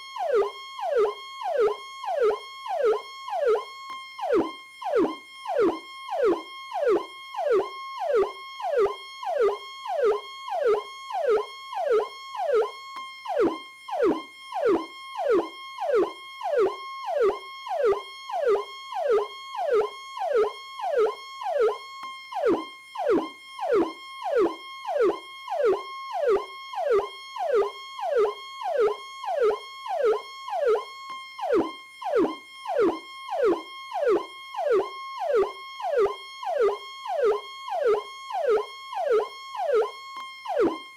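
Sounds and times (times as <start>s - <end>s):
police siren cycling: 0.0s - 40.9s.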